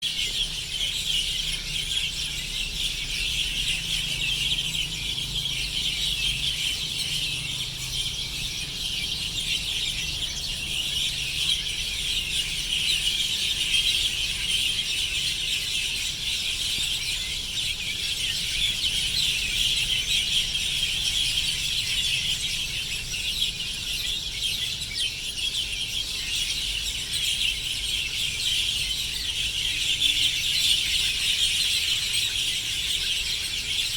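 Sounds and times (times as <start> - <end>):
sparrows chirping: 0.0 - 33.9.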